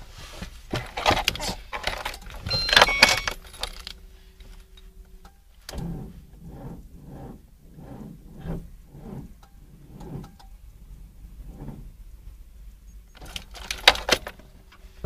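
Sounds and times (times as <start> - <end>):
faint steady hum: 0.0 - 15.0
car starter cranking engine: 0.8 - 15.0.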